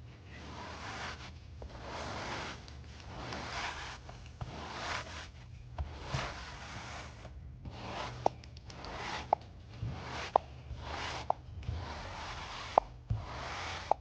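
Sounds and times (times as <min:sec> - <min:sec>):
brush rasping across fabric: 0:00.3 - 0:14.0.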